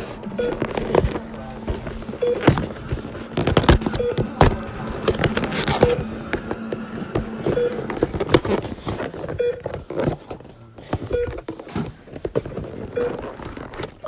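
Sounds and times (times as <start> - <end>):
phone handling clicks and rustling: 0.4 - 14.0.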